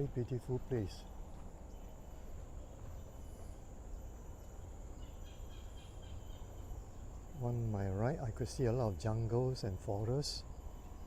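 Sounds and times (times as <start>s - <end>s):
faint bird chirps: 0.0s - 11.0s
steady high hum: 0.0s - 11.0s.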